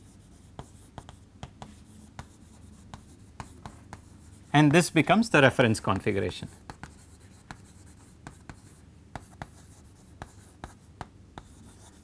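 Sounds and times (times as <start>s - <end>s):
chalk on blackboard: 0.0s - 4.9s, 6.5s - 12.0s.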